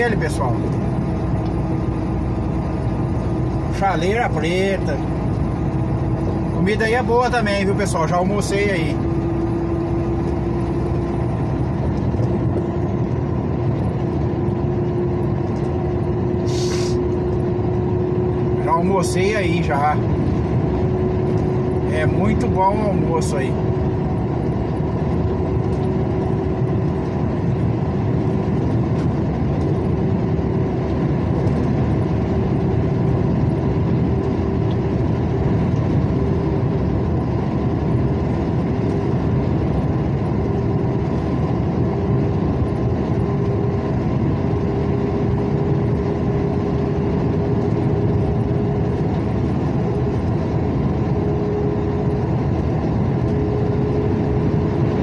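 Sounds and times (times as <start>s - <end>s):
vehicle cruising on highway: 0.0s - 55.0s.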